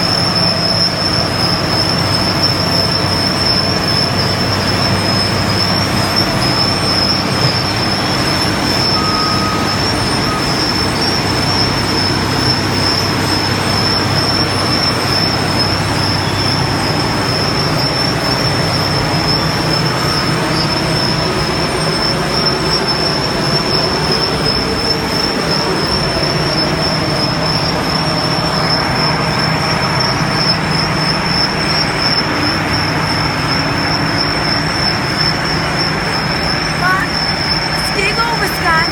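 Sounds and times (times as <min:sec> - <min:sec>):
heavy machinery noise: 0:00.0 - 0:38.9
high-pitched whine: 0:00.0 - 0:38.9.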